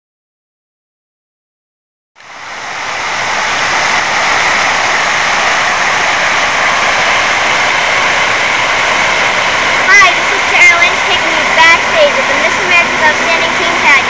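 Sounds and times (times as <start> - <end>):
fountain water splashing: 2.2 - 14.0.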